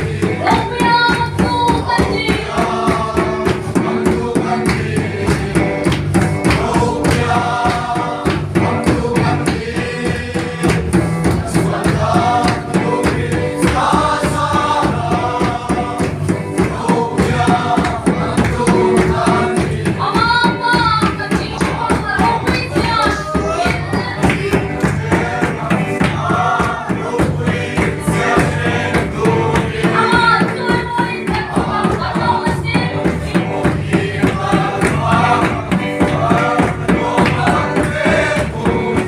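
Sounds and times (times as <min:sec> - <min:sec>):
congregation singing a hymn: 0:00.0 - 0:39.0
steady percussion beat: 0:00.0 - 0:39.0.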